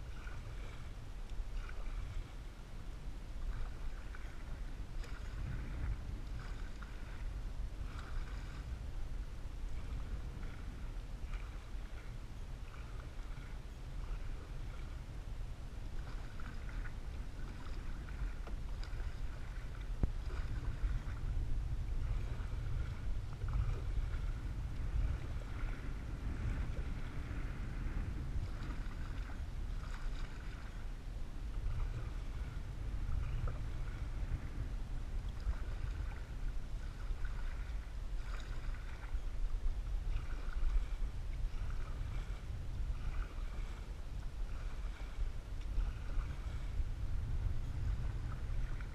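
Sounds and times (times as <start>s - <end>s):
low rumble: 0.0s - 48.9s
paddle splashing water: 0.0s - 48.9s.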